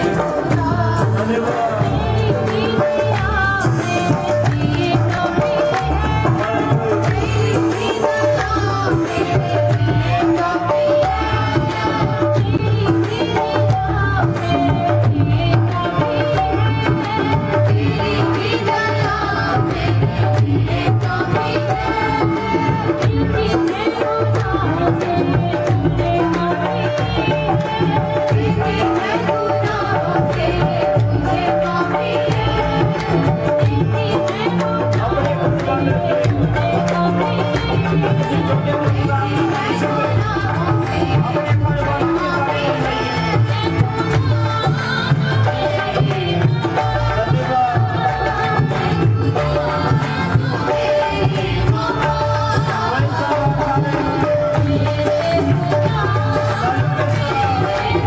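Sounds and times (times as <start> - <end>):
harmonium: 0.0 - 58.0
tabla and dholak drumming: 0.0 - 58.0
woman singing: 0.0 - 58.0.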